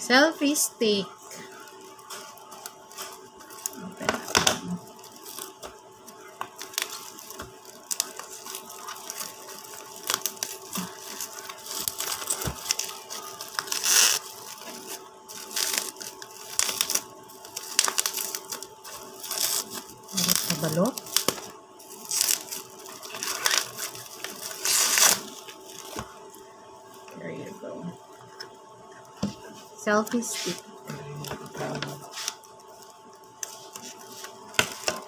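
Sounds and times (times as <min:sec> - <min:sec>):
plastic packaging crinkling and tearing: 0:00.4 - 0:27.6, 0:28.4 - 0:35.0
scissors cutting plastic packaging: 0:01.4 - 0:26.1, 0:31.2 - 0:35.0.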